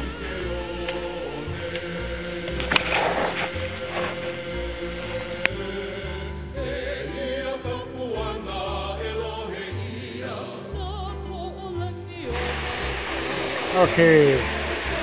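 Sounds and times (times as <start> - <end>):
low bass notes: 0.0 - 15.0
person singing with vibrato: 0.0 - 15.0.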